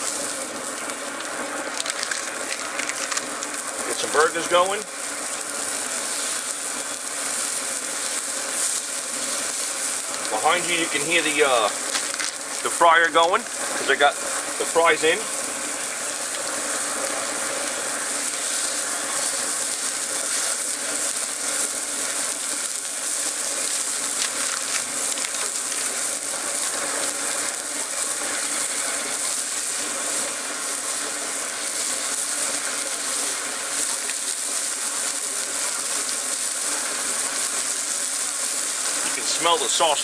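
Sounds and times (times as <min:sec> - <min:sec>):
deep fryer cooking: 0:00.0 - 0:40.0
meat sizzling on a griddle: 0:00.0 - 0:40.0.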